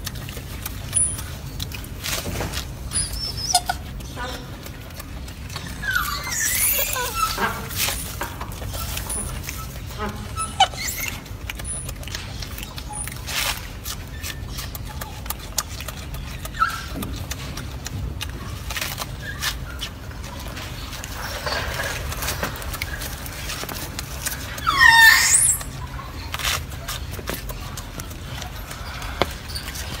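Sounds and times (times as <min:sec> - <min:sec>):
monkey crunching lettuce: 0:00.0 - 0:30.0.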